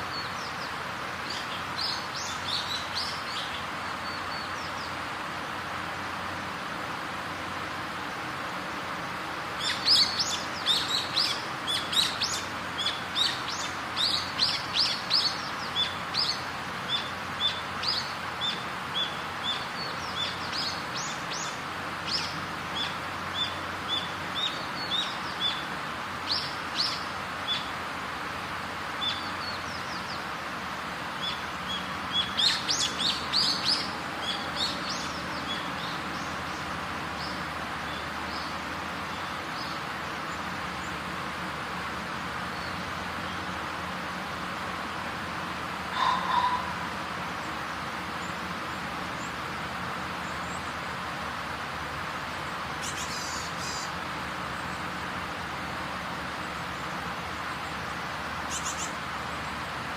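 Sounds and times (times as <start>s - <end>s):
songbirds chirping: 0.0s - 59.9s
steady background hiss: 0.0s - 59.9s.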